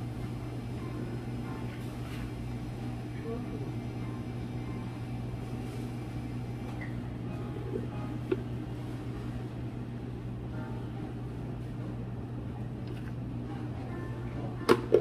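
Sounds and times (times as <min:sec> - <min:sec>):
electric hum of equipment: 0:00.0 - 0:15.0.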